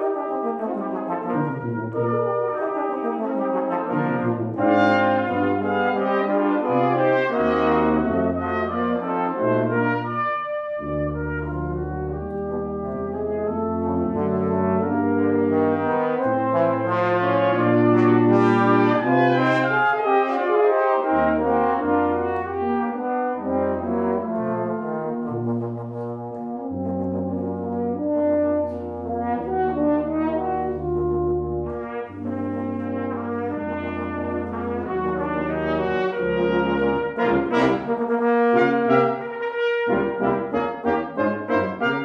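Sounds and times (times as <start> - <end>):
brass quintet playing: 0.0 - 42.0
tuba low notes: 0.0 - 42.0.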